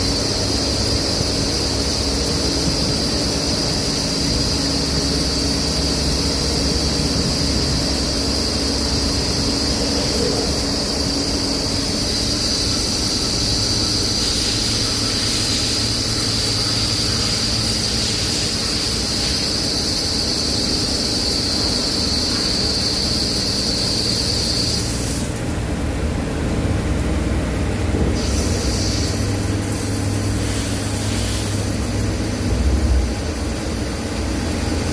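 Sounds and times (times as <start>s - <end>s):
high machine whine: 0.0s - 34.9s
lathe machine drone: 0.0s - 34.9s.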